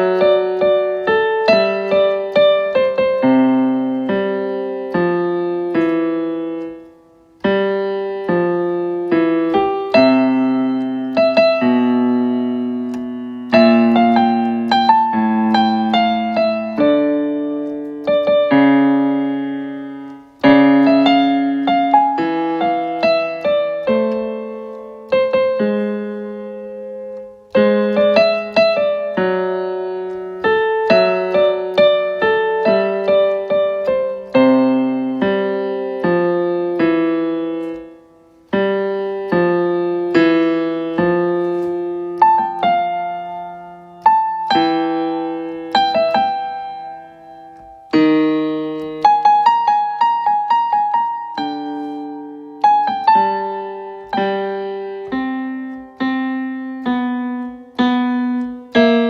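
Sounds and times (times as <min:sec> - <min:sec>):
electronic keyboard piano melody: 0:00.0 - 0:59.0.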